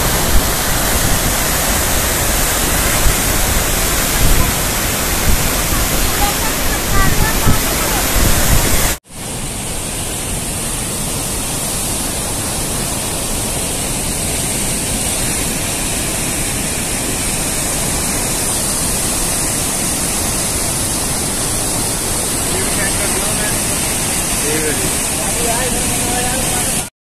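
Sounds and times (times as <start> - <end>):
rushing floodwater roar: 0.0 - 26.9.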